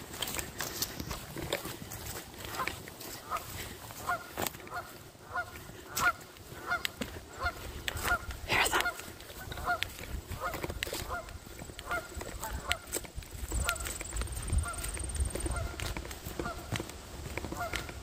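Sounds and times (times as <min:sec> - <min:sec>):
wind rumbling on microphone: 0:00.0 - 0:18.0
geese honking: 0:02.4 - 0:18.0.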